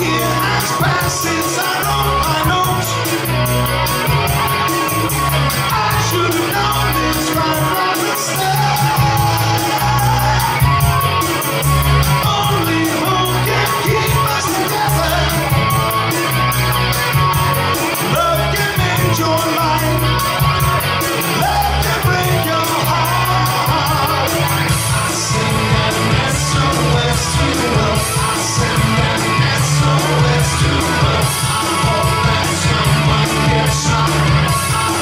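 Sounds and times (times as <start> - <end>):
man singing: 0.0 - 4.0, 4.7 - 11.3, 12.0 - 16.5, 17.8 - 35.0
bass line: 0.0 - 35.0
electric guitar: 0.0 - 35.0
steady drum beat: 0.0 - 35.0.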